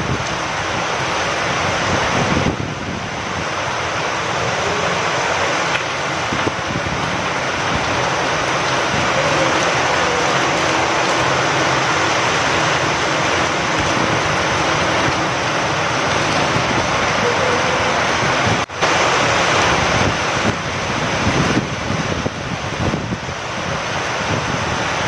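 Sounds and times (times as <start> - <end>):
heavy rain with wind: 0.0 - 25.0.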